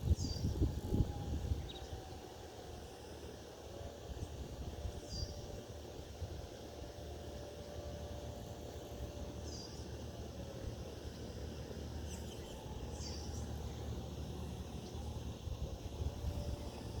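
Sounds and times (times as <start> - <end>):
distant fire siren: 0.0 - 17.0
fan rumble: 0.0 - 17.0.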